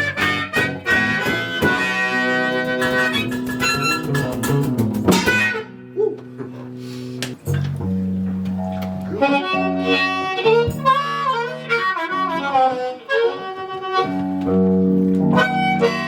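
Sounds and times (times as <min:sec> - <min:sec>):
blues harmonica: 0:00.0 - 0:07.2, 0:08.6 - 0:16.0
guitar accompaniment: 0:00.0 - 0:16.0.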